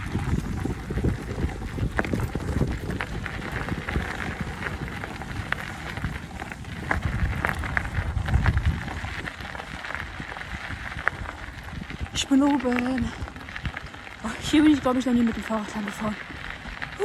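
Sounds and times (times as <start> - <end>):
bicycle tyres crunching on gravel: 0.0 - 17.0
bike rattling: 0.0 - 17.0.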